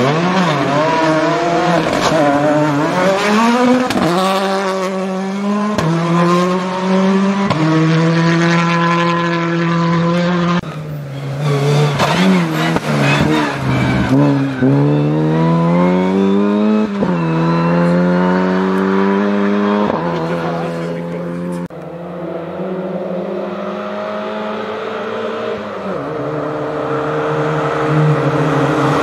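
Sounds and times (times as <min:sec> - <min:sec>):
rally car engine shifting gears: 0:00.0 - 0:29.0
rally car revving: 0:00.0 - 0:29.0.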